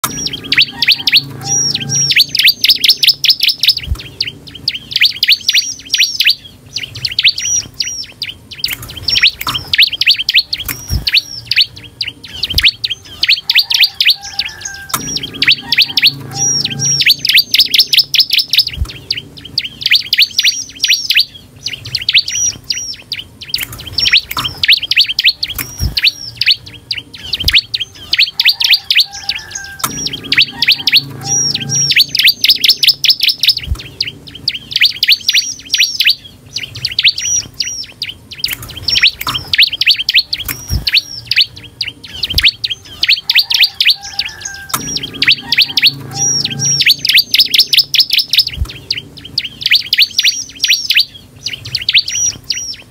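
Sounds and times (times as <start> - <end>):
bird high rapid chirps: 0.0 - 52.9.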